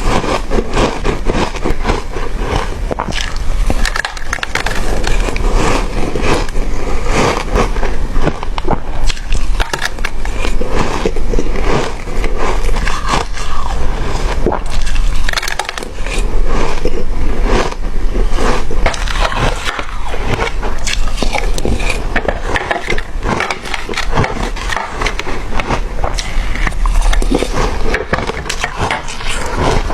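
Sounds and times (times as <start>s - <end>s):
ice crunching: 0.0s - 29.9s.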